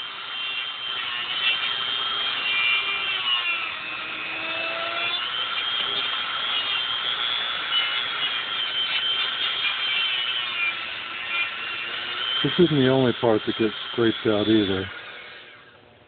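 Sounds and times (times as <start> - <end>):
rotary tool grinding: 0.0 - 15.8.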